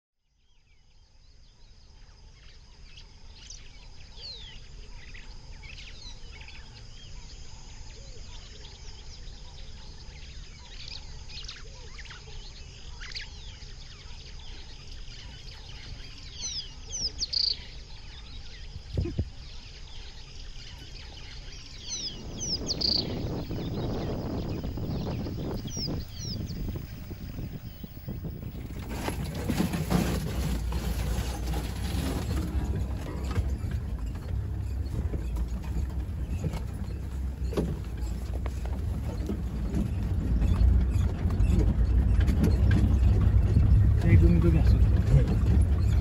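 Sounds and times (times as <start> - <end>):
birds chirping: 0.4 - 46.0
low steady rumble: 2.3 - 46.0.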